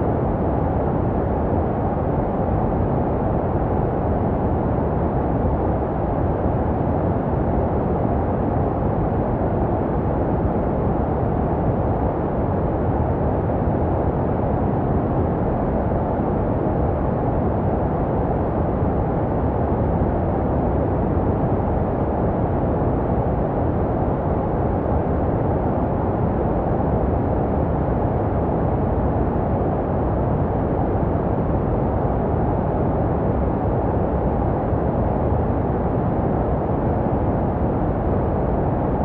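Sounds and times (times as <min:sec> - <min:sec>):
deep muffled white noise: 0:00.0 - 0:39.0.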